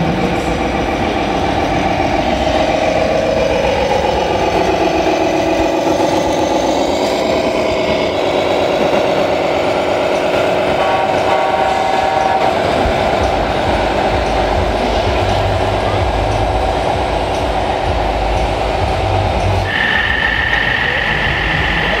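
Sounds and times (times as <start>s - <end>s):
simulated truck engine: 0.0s - 22.0s.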